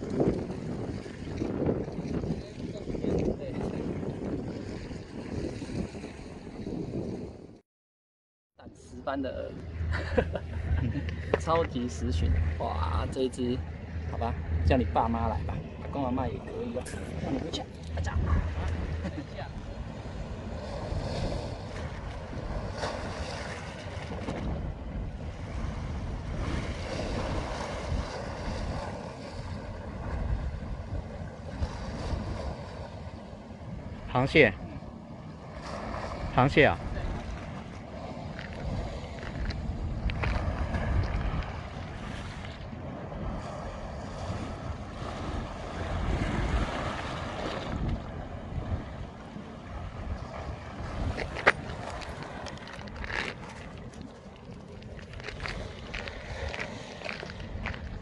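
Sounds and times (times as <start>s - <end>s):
sea water washing against concrete: 0.0s - 6.4s, 9.0s - 58.0s
wind buffeting microphone: 0.0s - 7.6s, 9.0s - 58.0s.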